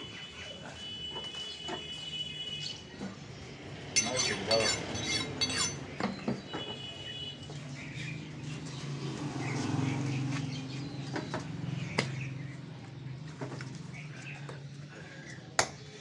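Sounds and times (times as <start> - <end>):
low market hum: 0.0 - 16.0.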